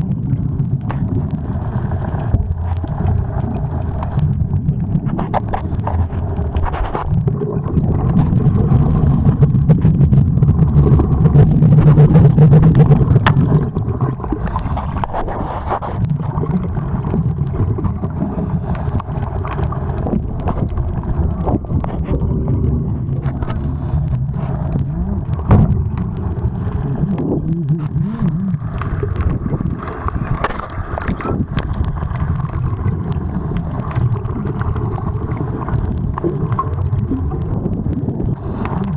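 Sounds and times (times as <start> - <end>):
underwater rumbling and bubbling: 0.0 - 38.9.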